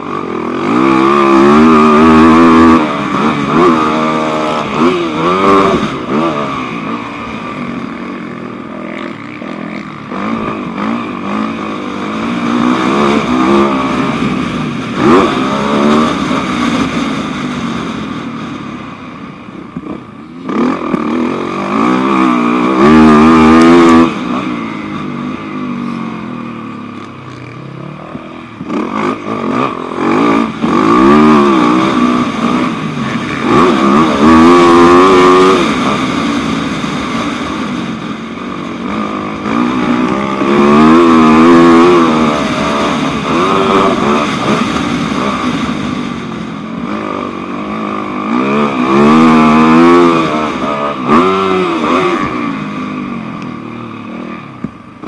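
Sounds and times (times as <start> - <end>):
dirt bike engine revving: 0.0 - 19.0, 19.6 - 55.0.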